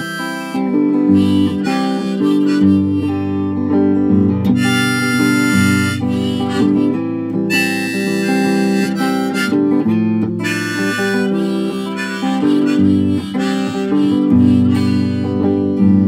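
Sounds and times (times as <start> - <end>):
acoustic guitar: 0.0 - 16.0
harmonica: 0.0 - 16.0.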